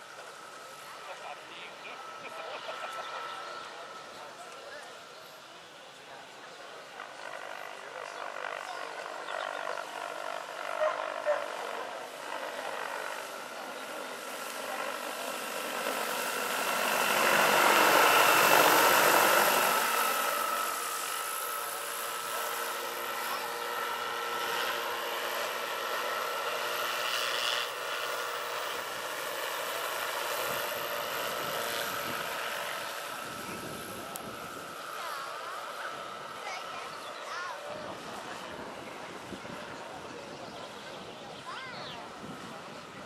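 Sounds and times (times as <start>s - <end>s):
model helicopter whine: 0.0s - 43.0s.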